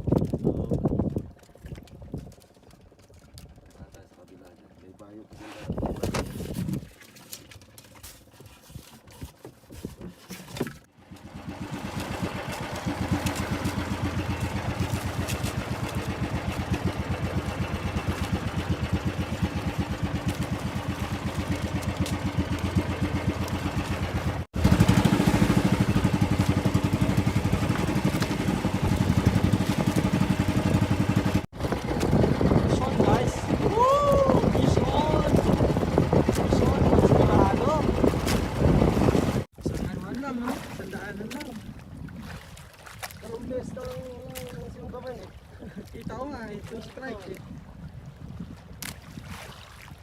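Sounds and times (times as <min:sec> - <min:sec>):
boat engine putter: 0:00.0 - 0:41.8.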